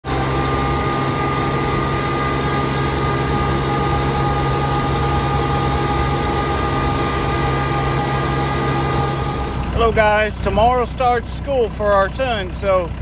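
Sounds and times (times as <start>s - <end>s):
steady whine: 0.0s - 13.0s
tractor engine running: 0.0s - 13.0s.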